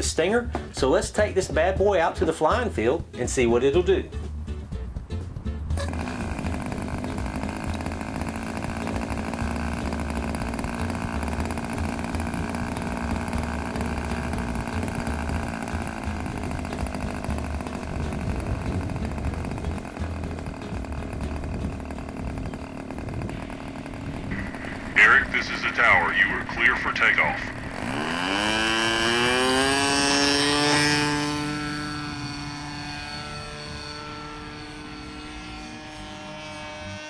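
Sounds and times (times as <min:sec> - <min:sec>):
model airplane engine running: 0:05.7 - 0:37.0.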